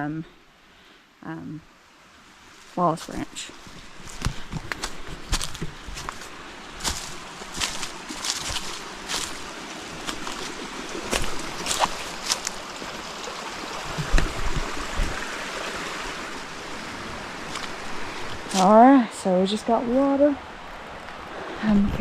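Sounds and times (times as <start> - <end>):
stream running: 0.0 - 22.0.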